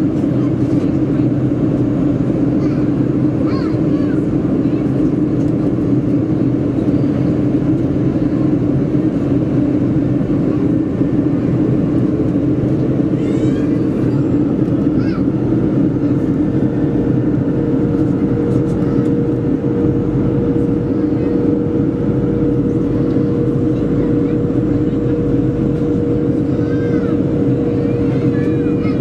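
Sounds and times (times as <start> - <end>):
jet engine cabin drone: 0.0 - 29.0
steady hum: 0.0 - 29.0.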